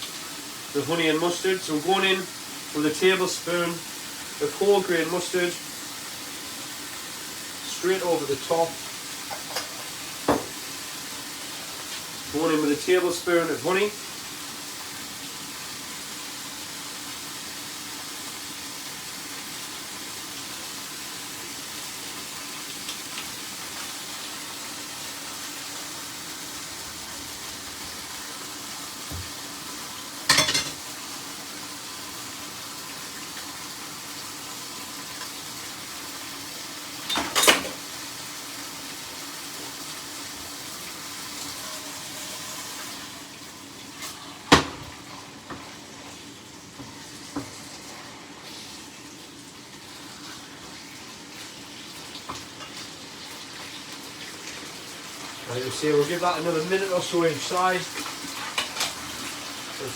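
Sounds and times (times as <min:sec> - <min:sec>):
chicken sizzling in a frying pan: 0:00.0 - 0:59.9.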